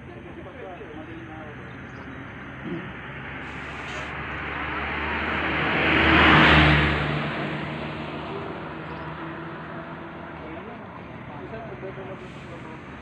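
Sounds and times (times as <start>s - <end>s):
vehicle driving past: 1.4s - 13.0s.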